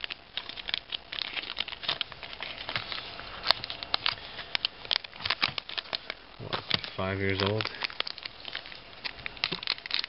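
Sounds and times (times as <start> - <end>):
card pack wrapper crinkling: 0.0 - 10.0.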